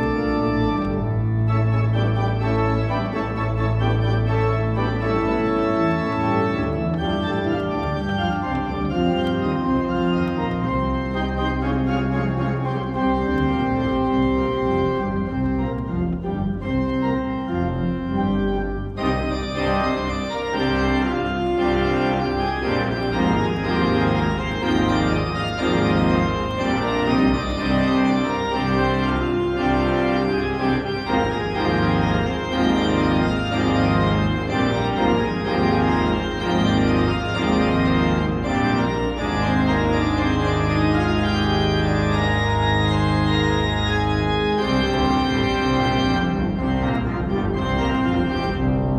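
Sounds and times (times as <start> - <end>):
church organ chords: 0.0 - 48.9
deep organ pedal note: 0.0 - 48.9.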